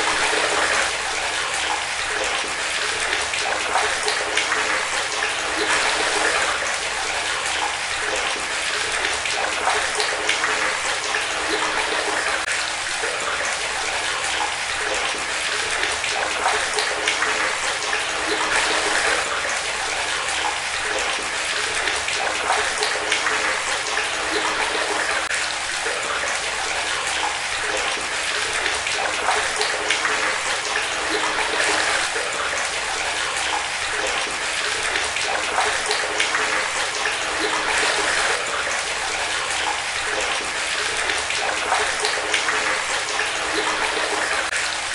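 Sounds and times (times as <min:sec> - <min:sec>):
water running steadily: 0:00.0 - 0:44.9.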